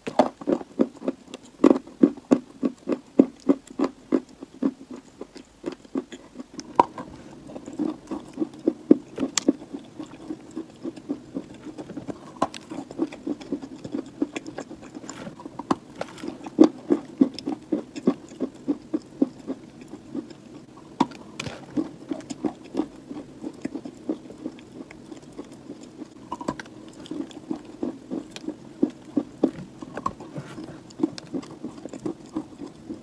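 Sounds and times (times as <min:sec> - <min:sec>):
chewing dry clay crunches: 0:00.0 - 0:33.0.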